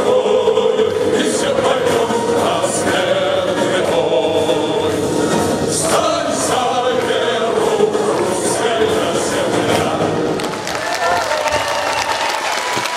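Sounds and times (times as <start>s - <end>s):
group singing into microphones: 0.0s - 10.6s.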